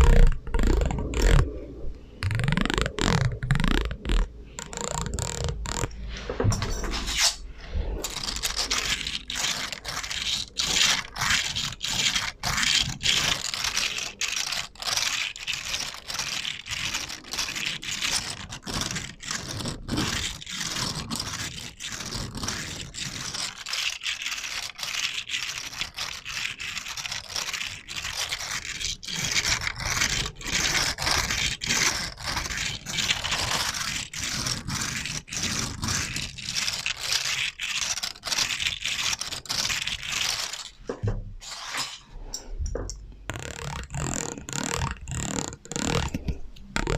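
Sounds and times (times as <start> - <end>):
scratching and scraping on a surface: 0.0 - 46.9.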